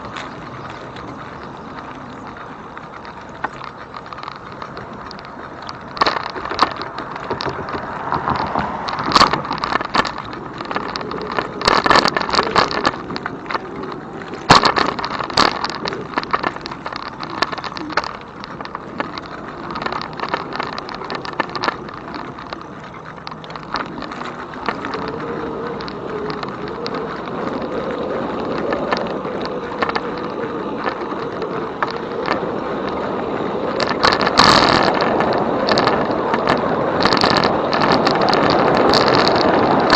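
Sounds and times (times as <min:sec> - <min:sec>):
bike rattling over bumps: 0:00.0 - 0:39.9
rolling noise: 0:00.0 - 0:39.9.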